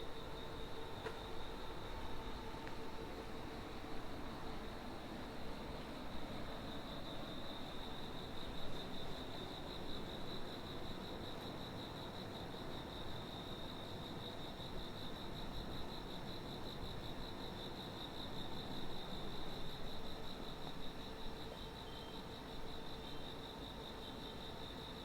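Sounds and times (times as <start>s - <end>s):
cricket trilling: 0.0s - 25.0s.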